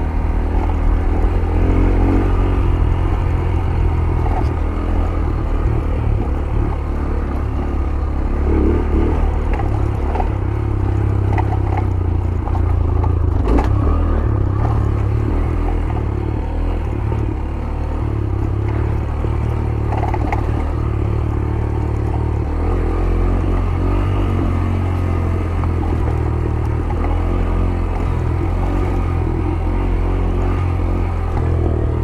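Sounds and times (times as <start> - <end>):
motorcycle engine at low revs: 0.0 - 32.0
motorcycle knocks and rattles: 0.0 - 32.0.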